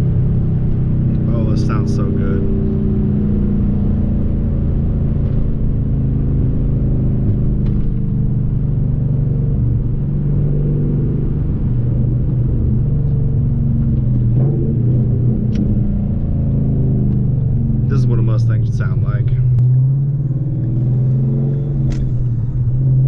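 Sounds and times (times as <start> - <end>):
car exhaust while cruising: 0.0 - 23.0.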